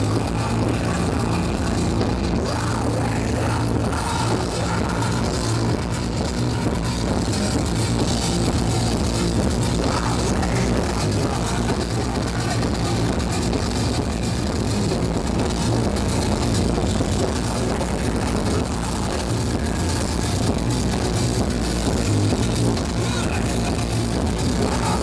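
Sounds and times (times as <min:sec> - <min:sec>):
metal band playing live: 0:00.0 - 0:25.0.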